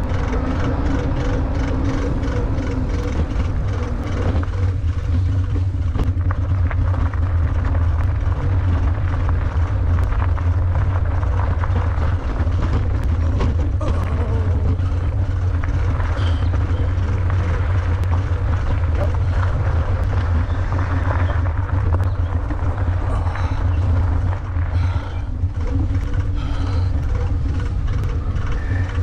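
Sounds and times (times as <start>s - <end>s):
tyres crunching over trail: 0.0s - 29.0s
wind rumble on microphone: 0.0s - 29.0s.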